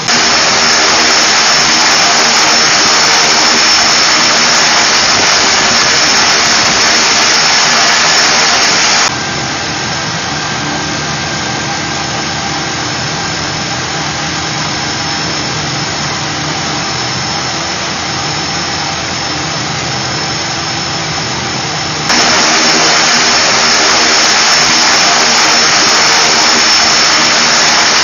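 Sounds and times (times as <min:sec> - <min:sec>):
high engine whine: 0:00.0 - 0:28.0
turboprop engine running: 0:00.0 - 0:28.0.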